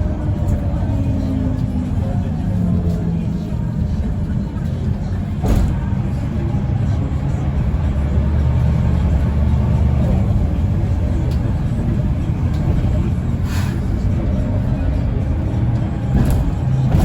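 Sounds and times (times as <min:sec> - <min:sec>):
bus engine and road noise drone: 0:00.0 - 0:17.0.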